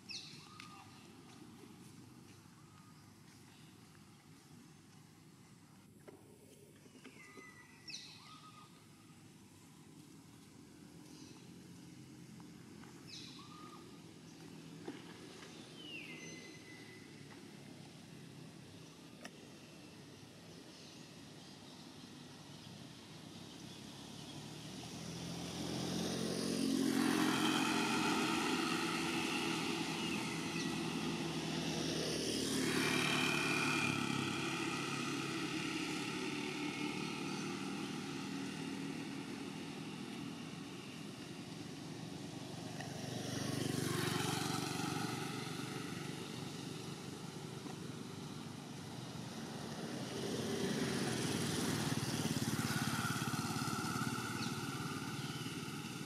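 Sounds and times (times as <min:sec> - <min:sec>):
passing motor vehicle engines: 0:00.0 - 0:56.0.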